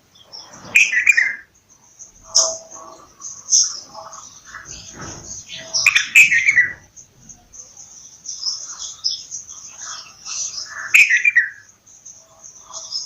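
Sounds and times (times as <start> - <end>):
bird chirping: 0.0 - 13.0
high-pitched twittering: 0.3 - 13.0.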